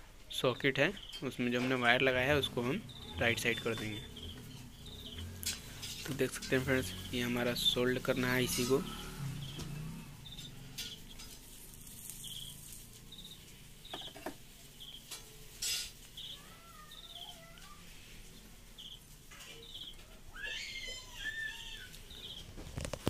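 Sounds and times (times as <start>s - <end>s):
birds chirping: 0.3s - 23.0s.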